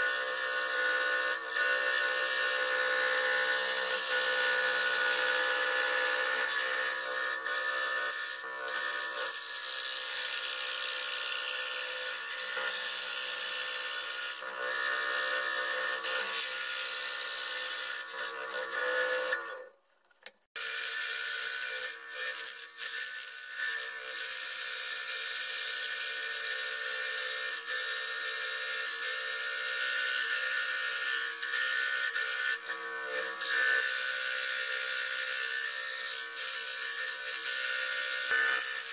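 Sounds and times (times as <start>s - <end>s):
scroll saw cutting plywood: 0.0s - 38.9s.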